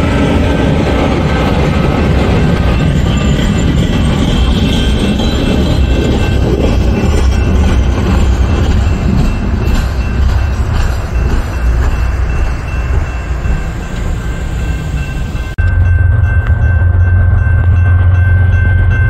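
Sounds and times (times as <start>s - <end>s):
crossing bell ringing: 0.0s - 19.0s
freight train wheels clacking: 0.0s - 19.0s.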